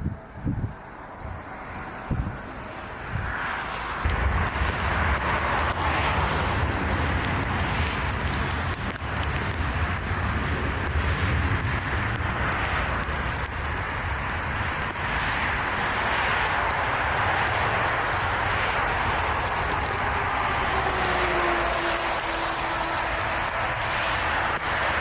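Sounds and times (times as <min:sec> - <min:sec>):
gusty wind buffeting microphone: 0:00.0 - 0:25.0.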